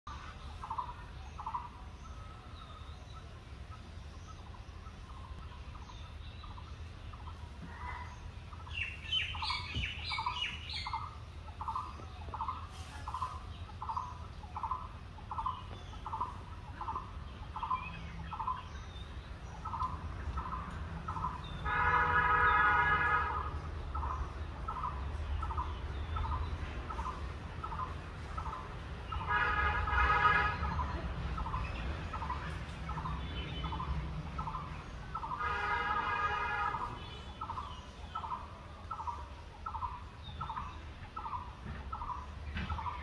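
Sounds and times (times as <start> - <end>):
birds calling: 0.1 - 43.0
drawn-out bird call: 0.1 - 43.0
higher bird chirping: 0.1 - 43.0.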